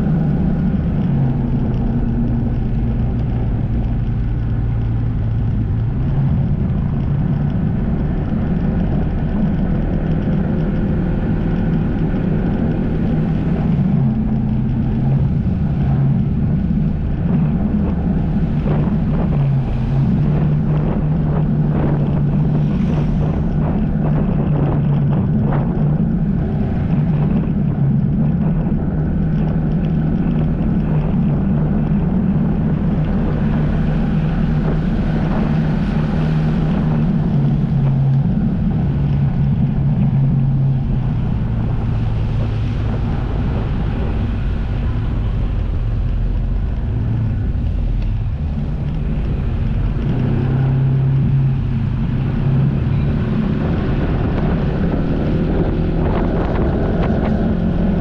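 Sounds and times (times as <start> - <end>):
jet ski engine running: 0.0 - 58.0
water rushing: 0.0 - 58.0
wind buffeting microphone: 0.0 - 58.0.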